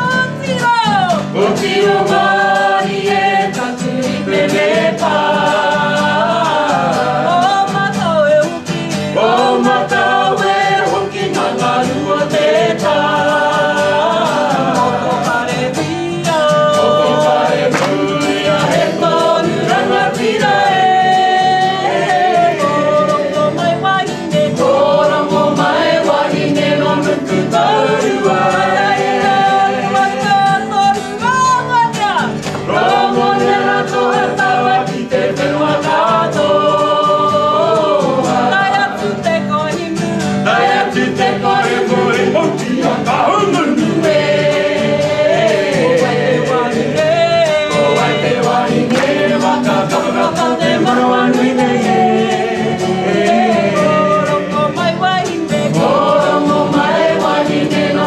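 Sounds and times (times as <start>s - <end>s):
group of voices singing: 0.0s - 58.0s.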